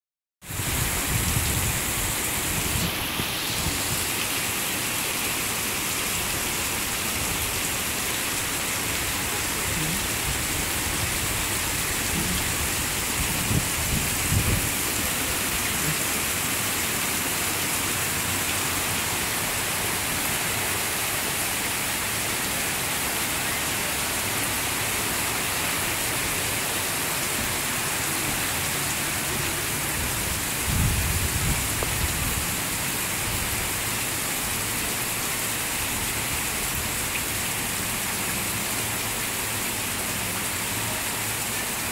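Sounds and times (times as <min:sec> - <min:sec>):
heavy rain pouring: 0:00.4 - 0:41.9.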